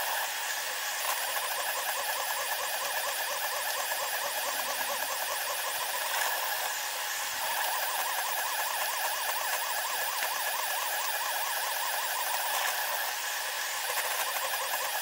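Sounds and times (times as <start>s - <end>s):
high wavering motor whine: 0.0s - 15.0s.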